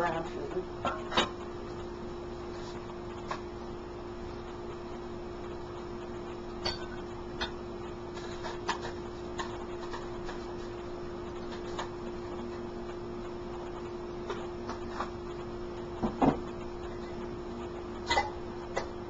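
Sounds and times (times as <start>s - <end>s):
steady low hum and hiss: 0.0s - 19.0s.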